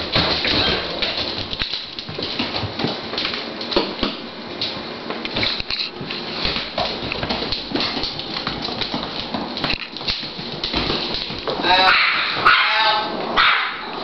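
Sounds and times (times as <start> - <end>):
dog claws clicking on tile floor: 0.0 - 14.0.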